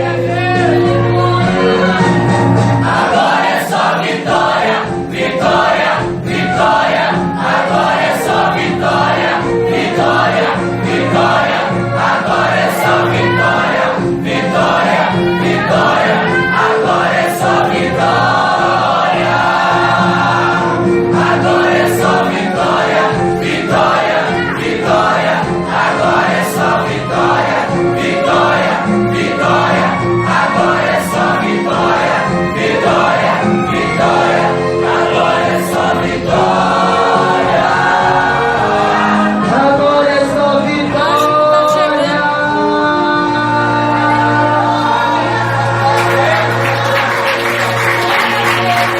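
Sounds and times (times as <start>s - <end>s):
choir singing a gospel hymn: 0.0s - 48.9s
sustained instrumental accompaniment: 0.0s - 48.9s.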